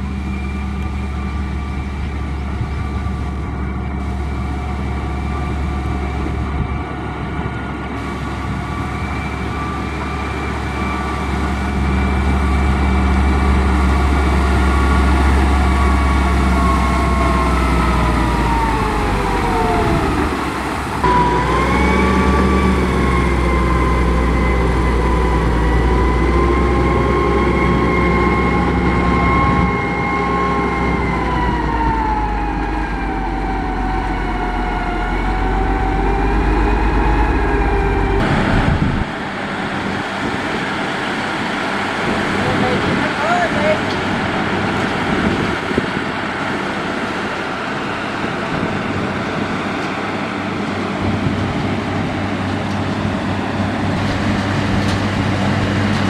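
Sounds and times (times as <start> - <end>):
construction machine engine rumble: 0.0 - 56.0
machine whine: 0.0 - 56.0.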